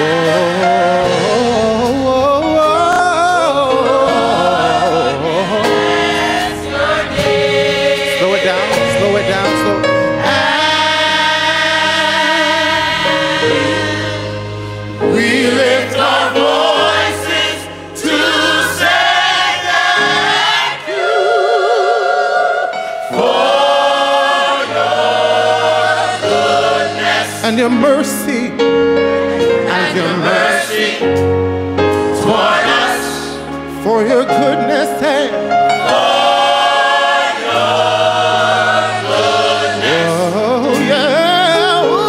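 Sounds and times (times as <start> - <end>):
gospel choir singing: 0.0 - 42.0.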